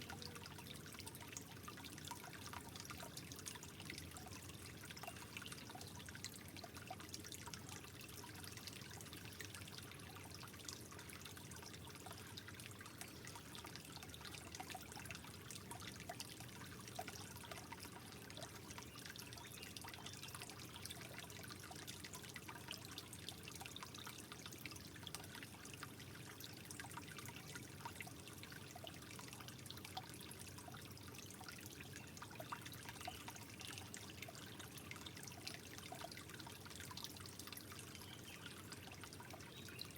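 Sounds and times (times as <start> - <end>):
trickling water with drips: 0.0 - 39.9.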